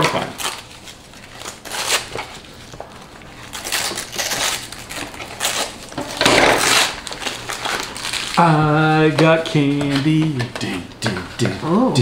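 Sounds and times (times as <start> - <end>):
packaging rustling and crinkling: 0.0 - 10.5.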